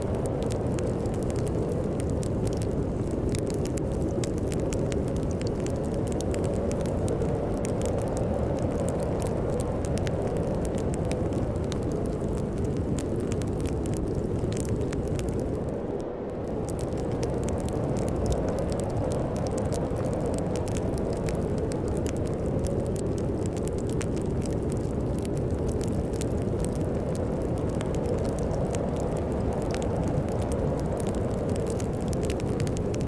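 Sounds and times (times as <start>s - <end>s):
storm wind rumble: 0.0s - 33.0s
wood fire crackling: 0.0s - 33.0s.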